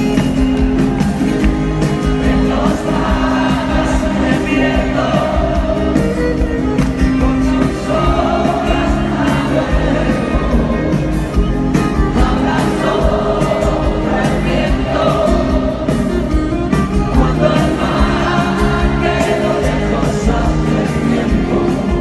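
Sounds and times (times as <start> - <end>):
live pop-rock band playing: 0.0 - 22.0
person singing: 2.0 - 16.1, 16.9 - 22.0.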